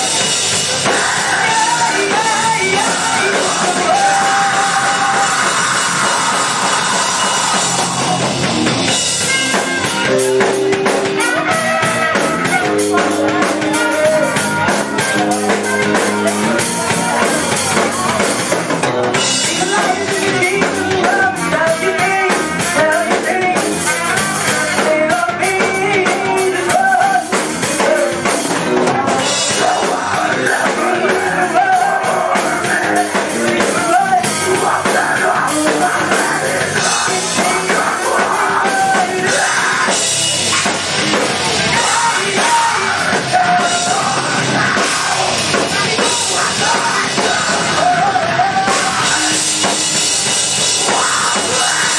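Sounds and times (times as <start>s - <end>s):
vocalists singing: 0.0s - 18.6s, 19.2s - 51.9s
live rock band playing: 0.0s - 51.9s.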